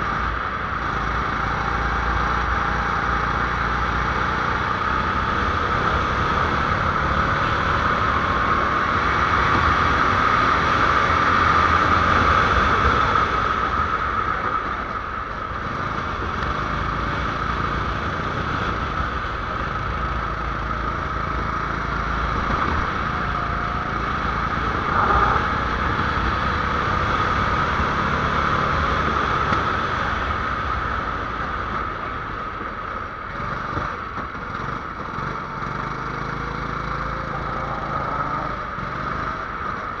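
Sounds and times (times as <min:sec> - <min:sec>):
go-kart engine droning: 0:00.0 - 0:40.0.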